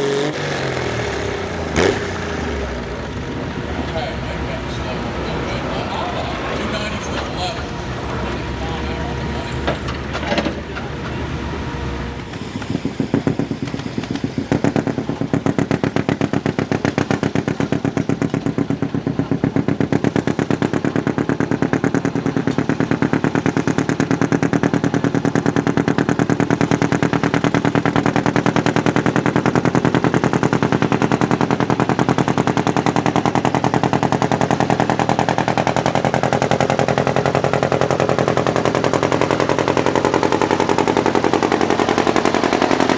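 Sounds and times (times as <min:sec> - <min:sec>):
tractor engine under load: 0:00.0 - 0:42.9.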